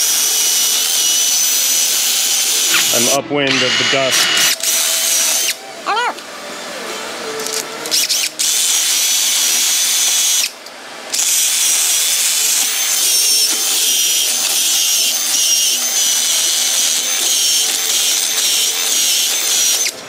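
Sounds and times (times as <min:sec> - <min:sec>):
power tool grinding metal: 0:00.0 - 0:05.6, 0:07.5 - 0:20.0.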